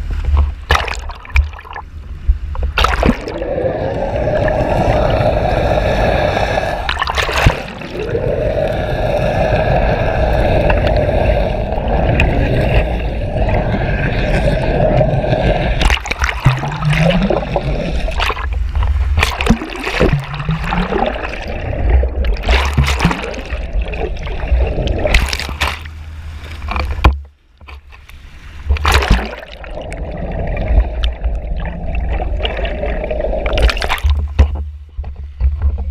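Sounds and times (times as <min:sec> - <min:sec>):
water gurgling: 0:00.0 - 0:27.2, 0:28.7 - 0:34.6
muffled boat engine underwater: 0:00.0 - 0:35.9.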